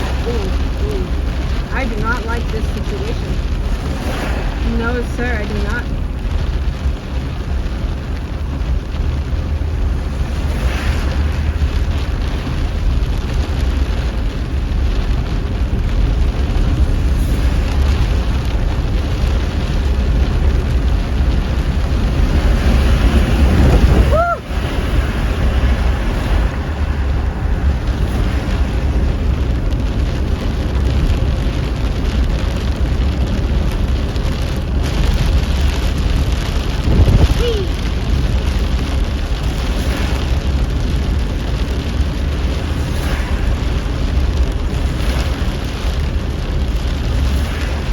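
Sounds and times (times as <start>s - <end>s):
rain: 0.0s - 47.9s
road noise inside a car: 0.0s - 47.9s
wind buffeting microphone: 0.0s - 47.9s.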